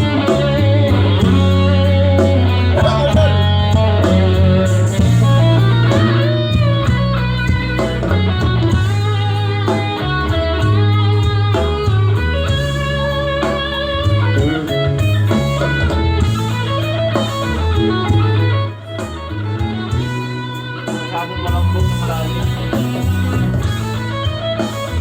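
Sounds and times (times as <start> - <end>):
rock music through speakers: 0.0 - 25.0.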